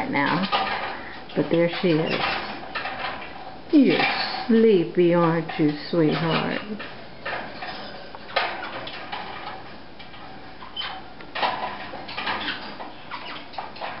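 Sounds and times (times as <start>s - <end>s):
parrots scratching and rustling: 0.3s - 4.6s, 5.4s - 14.0s.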